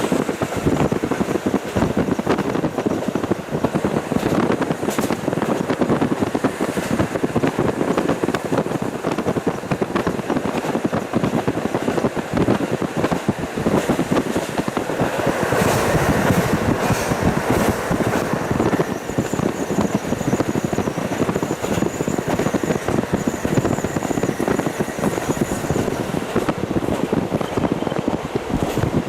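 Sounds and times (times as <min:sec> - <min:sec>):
diesel railcar engine: 0:00.0 - 0:29.0
wheels rattling on rails: 0:00.0 - 0:29.0
wind buffeting microphone: 0:00.0 - 0:29.0.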